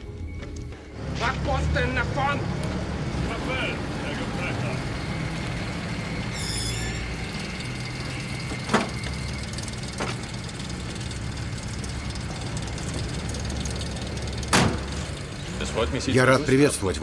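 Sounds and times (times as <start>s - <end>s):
car engine idling: 0.7s - 17.0s.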